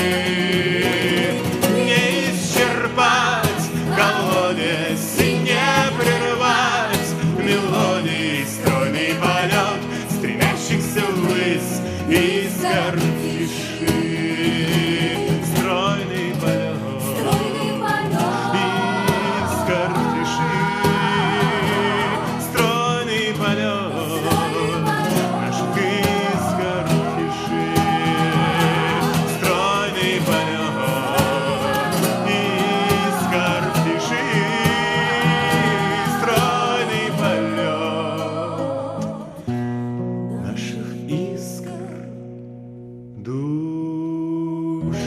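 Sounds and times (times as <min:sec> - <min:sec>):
man singing with vibrato: 0:00.0 - 0:39.5, 0:40.3 - 0:42.3, 0:43.2 - 0:45.0
instrumental accompaniment: 0:00.0 - 0:40.3.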